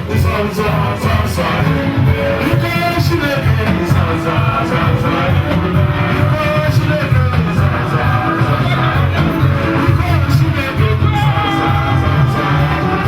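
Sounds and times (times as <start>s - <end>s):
heavy pulsing bass: 0.0s - 13.0s
live praise music: 0.0s - 13.0s
voices singing: 0.0s - 13.0s.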